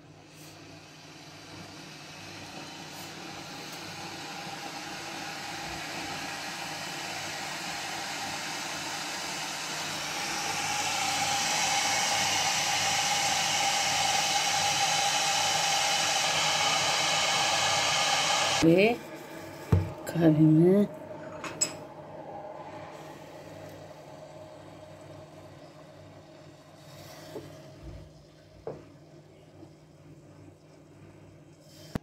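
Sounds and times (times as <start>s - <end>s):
electric coffee pot hissing: 0.0s - 32.0s.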